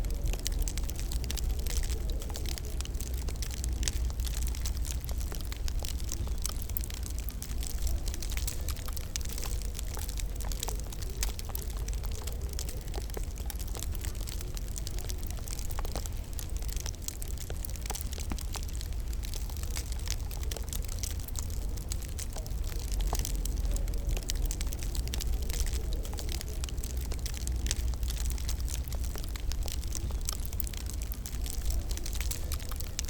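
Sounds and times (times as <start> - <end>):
fire rumble and hiss: 0.0 - 33.0
wood fire popping: 0.0 - 33.0.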